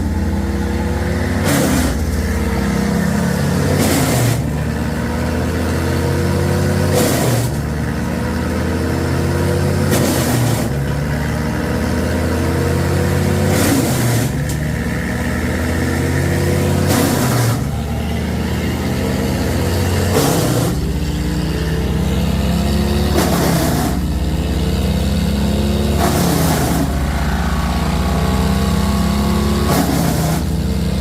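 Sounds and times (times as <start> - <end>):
large engine running: 0.0 - 31.0.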